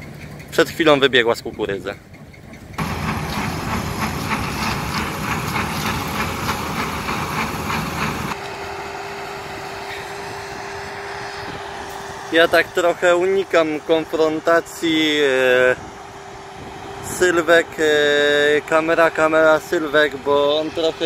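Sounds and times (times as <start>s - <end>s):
combine harvester mechanical rattle: 0.0s - 21.0s
engine drone with held tone: 0.0s - 21.0s.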